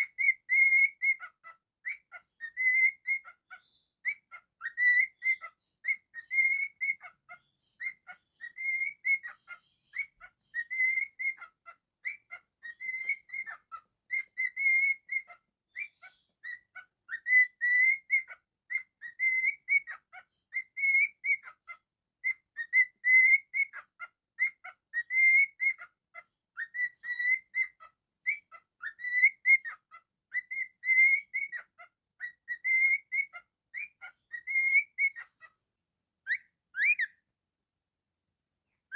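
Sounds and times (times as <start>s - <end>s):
cockatiel whistling a tune: 0.0s - 35.4s, 36.3s - 37.2s.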